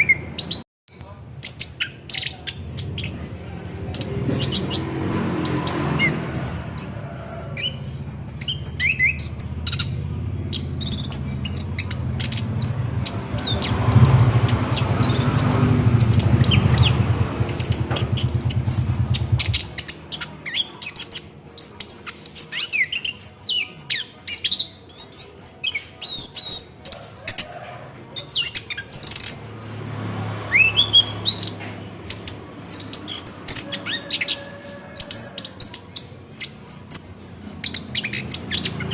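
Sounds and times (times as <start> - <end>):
bird singing: 0.0 - 29.6, 30.3 - 38.9.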